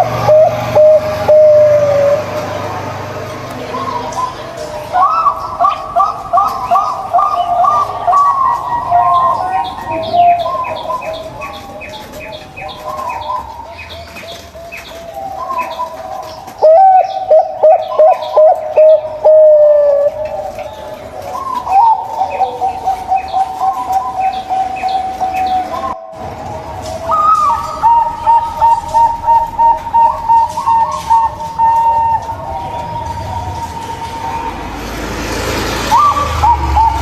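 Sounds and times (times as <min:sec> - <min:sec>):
doves cooing: 0:00.0 - 0:37.0.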